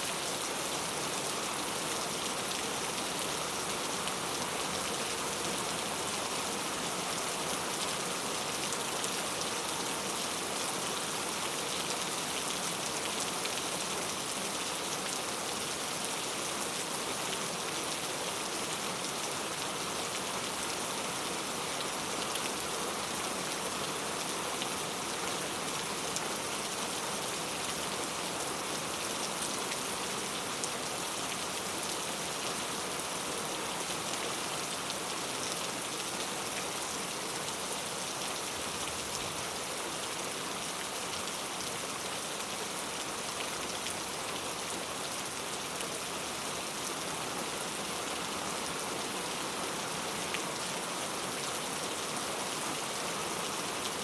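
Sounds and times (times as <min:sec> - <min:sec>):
heavy rain on street: 0:00.0 - 0:54.0.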